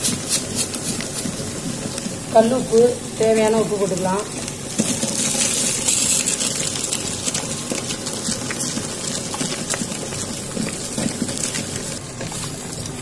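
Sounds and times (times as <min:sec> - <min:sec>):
stone wet grinder churning batter: 0:00.0 - 0:13.0.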